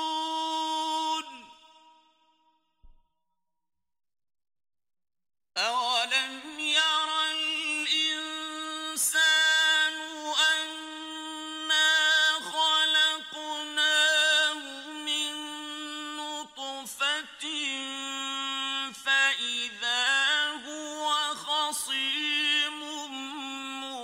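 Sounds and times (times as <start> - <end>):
person chanting recitation: 0.0 - 1.8, 5.6 - 24.0.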